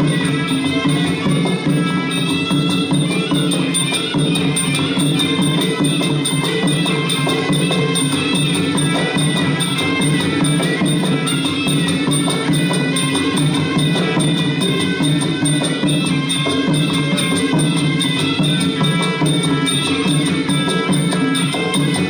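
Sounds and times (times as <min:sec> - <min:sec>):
drums and hand percussion: 0:00.0 - 0:22.0.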